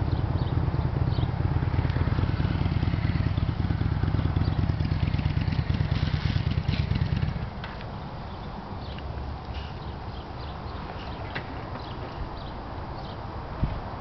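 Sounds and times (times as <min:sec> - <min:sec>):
motorcycle engine rumbling: 0:00.0 - 0:13.2.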